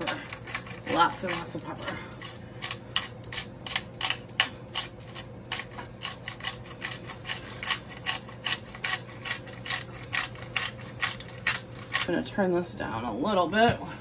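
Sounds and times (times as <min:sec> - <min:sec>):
pepper grinder clicking: 0:00.0 - 0:12.1.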